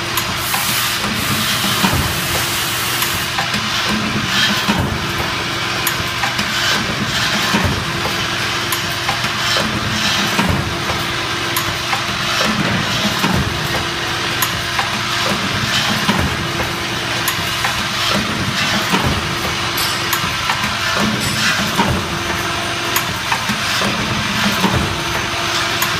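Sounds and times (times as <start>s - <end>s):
machine hiss and clack: 0.0s - 25.9s.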